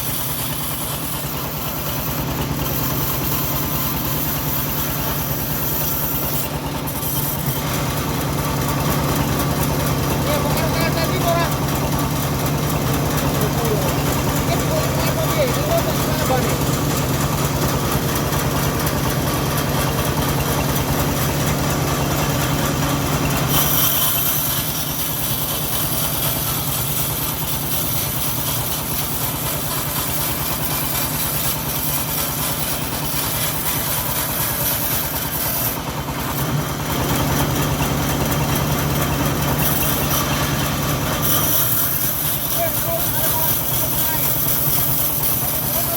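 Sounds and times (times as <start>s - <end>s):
saw blade hissing through log: 0.0s - 45.9s
sawmill engine running: 0.0s - 45.9s.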